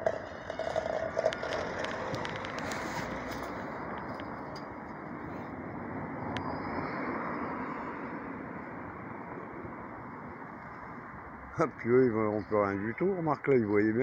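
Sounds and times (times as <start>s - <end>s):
street traffic rush: 0.0s - 14.0s.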